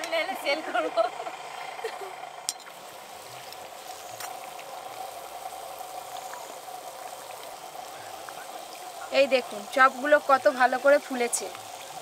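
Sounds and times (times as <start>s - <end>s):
deep-frying in hot oil: 0.0s - 12.0s.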